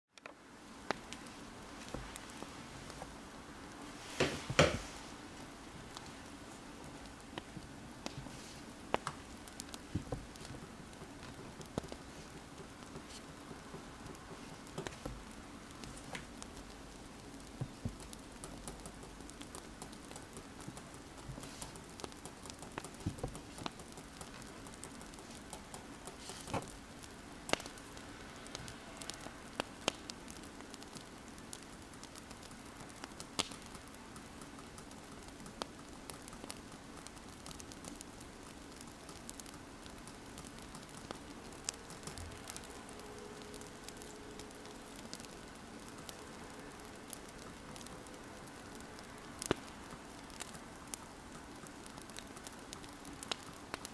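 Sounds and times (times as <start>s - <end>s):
wood fire crackling: 0.2s - 53.9s.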